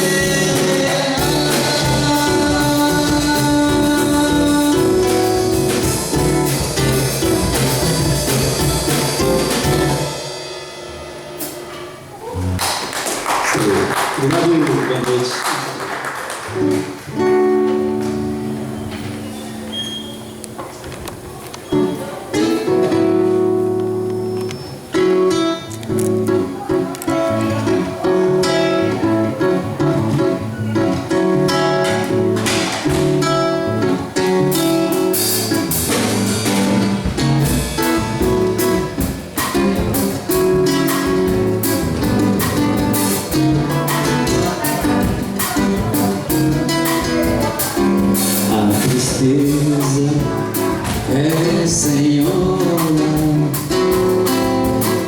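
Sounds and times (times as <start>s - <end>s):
samba band music: 0.0s - 20.4s, 21.2s - 55.0s.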